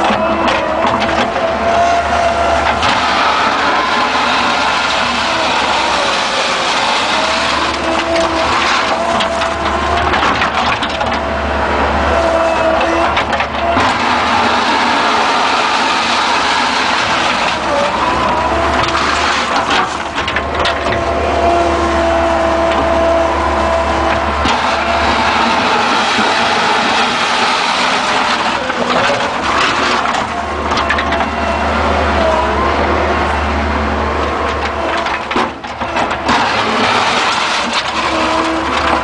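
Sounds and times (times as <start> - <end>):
bucket scraping through asphalt: 0.0 - 31.9, 34.3 - 39.0
knocks and grinding: 0.0 - 39.0
skid-steer engine whining: 0.0 - 39.0.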